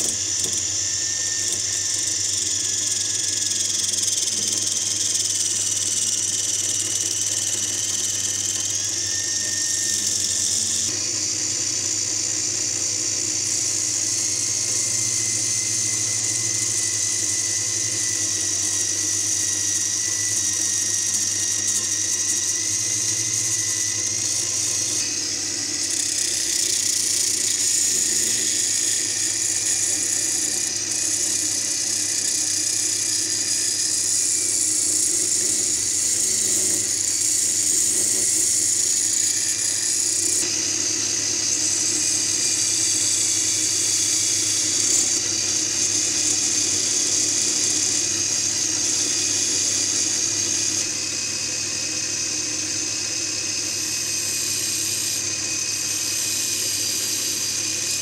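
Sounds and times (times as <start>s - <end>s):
angle grinder whining: 0.0s - 58.0s
chisel cutting spinning wood: 0.0s - 58.0s.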